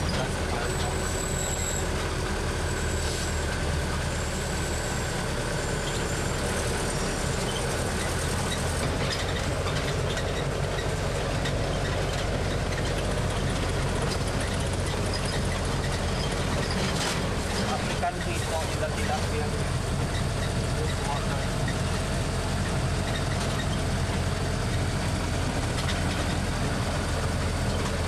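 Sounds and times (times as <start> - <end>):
road noise on dirt track: 0.0 - 28.0
tram engine drone: 0.0 - 28.0.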